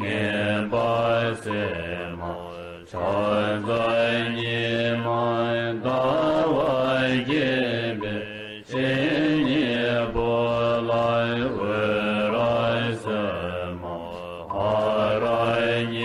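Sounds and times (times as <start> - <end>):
person chanting a mantra: 0.0 - 16.0.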